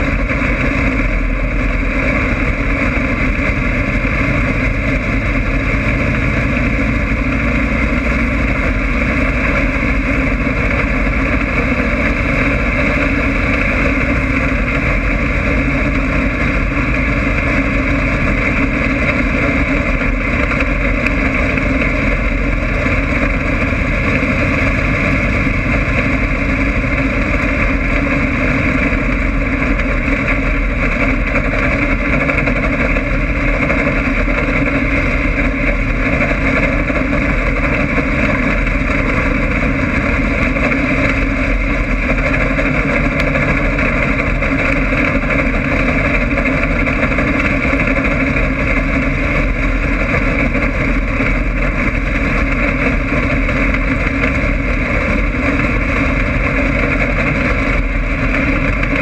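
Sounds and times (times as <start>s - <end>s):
car engine running hard: 0.0s - 59.0s
wind: 0.0s - 59.0s.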